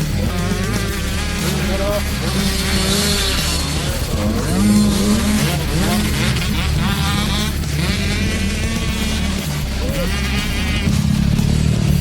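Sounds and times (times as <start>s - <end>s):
background music: 0.0s - 12.0s
car engine revving: 0.0s - 12.0s.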